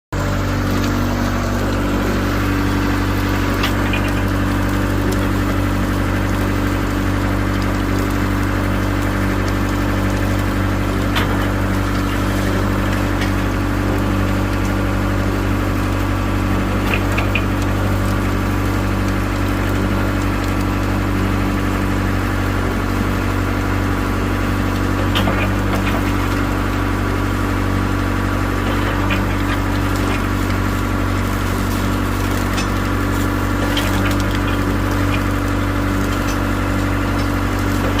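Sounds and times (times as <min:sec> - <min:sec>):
drilling rig engine running: 0:00.1 - 0:38.0.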